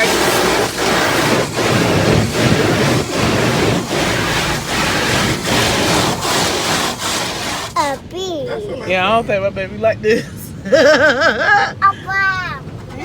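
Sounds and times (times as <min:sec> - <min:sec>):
car wash water rushing: 0:00.0 - 0:13.0.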